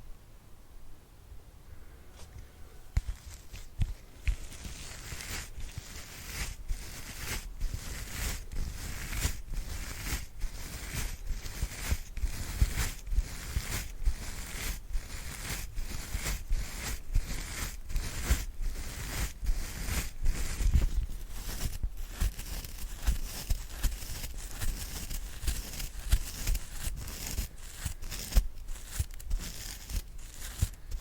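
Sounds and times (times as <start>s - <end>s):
soft brush swishing: 2.1s - 31.0s.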